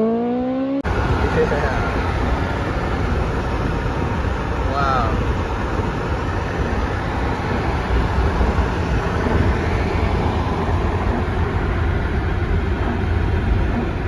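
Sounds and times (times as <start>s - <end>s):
vehicle road and wind noise: 0.0s - 14.0s.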